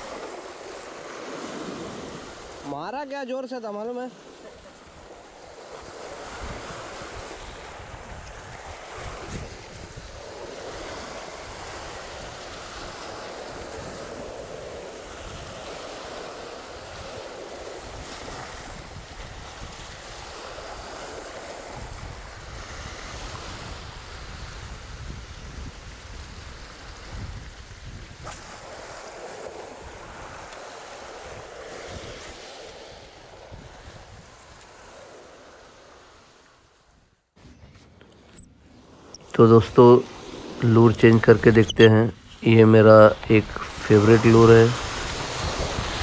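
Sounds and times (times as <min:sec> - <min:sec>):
wind rumbling on microphone: 0:00.0 - 0:02.7, 0:04.2 - 0:46.0
sea waves breaking on rocks: 0:00.0 - 0:36.8, 0:38.8 - 0:46.0.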